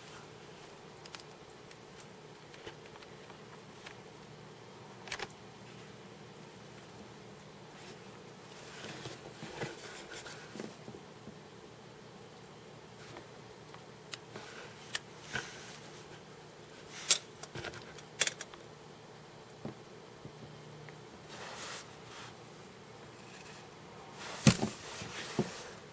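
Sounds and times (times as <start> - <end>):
low steady hum: 0.0 - 25.9.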